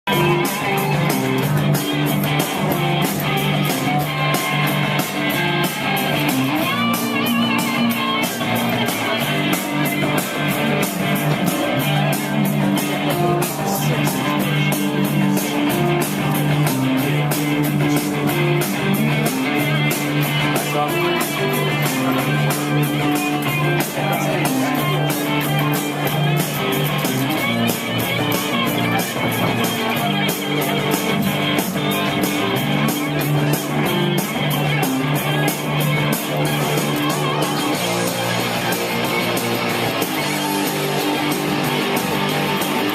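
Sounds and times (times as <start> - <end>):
bass line: 0.0 - 42.9
electric guitar: 0.0 - 42.9
drum beat: 0.1 - 42.9.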